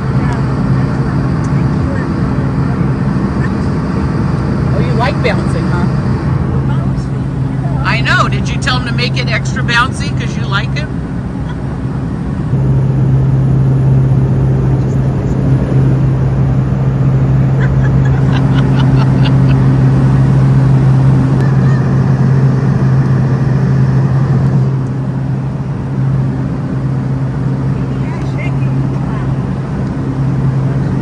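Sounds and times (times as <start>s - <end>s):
jet cabin engine drone: 0.0s - 31.0s.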